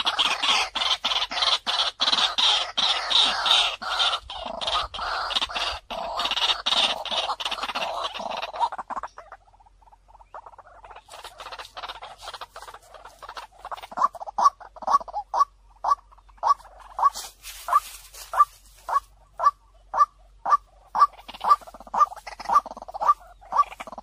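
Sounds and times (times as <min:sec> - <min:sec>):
bird decoy call: 0:00.0 - 0:09.4, 0:10.1 - 0:24.0.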